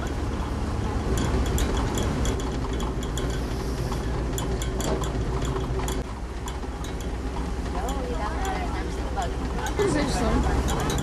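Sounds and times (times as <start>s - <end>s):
metallic clinks of horse tack: 0.0s - 11.0s.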